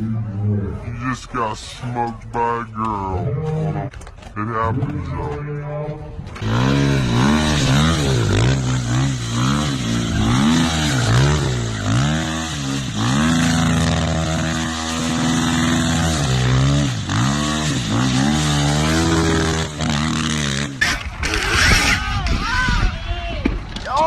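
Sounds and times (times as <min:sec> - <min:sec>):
dirt bike engine revving: 0:02.0 - 0:22.3.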